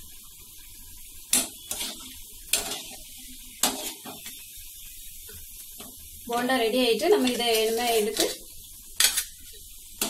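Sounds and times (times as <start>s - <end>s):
oil sizzling: 0.0s - 10.0s.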